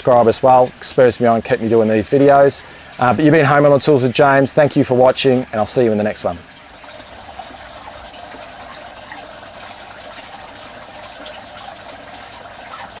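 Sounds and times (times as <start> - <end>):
water pouring and splashing: 0.0 - 13.0
water spraying from a valve: 0.0 - 13.0.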